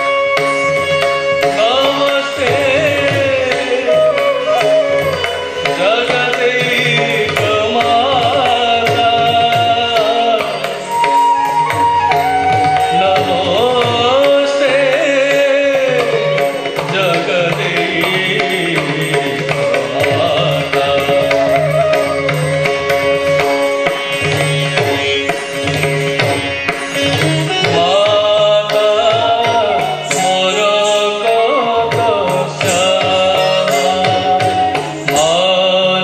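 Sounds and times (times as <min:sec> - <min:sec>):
hand drum pattern: 0:00.0 - 0:36.0.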